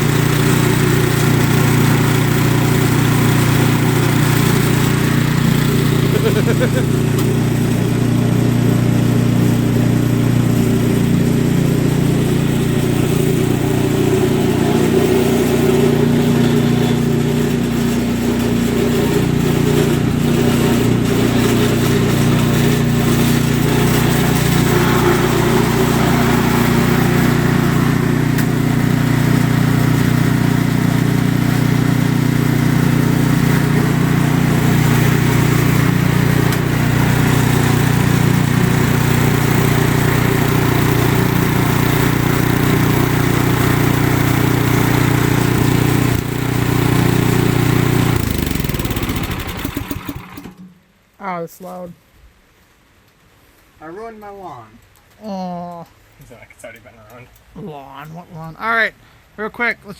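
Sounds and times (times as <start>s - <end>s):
snowblower engine running: 0.0s - 50.7s.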